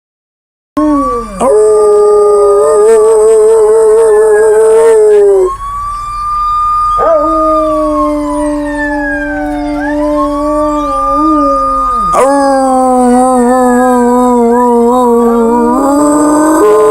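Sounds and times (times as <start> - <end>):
dogs howling: 0.8 - 5.6, 6.9 - 16.9
siren-like high wail: 0.8 - 16.9.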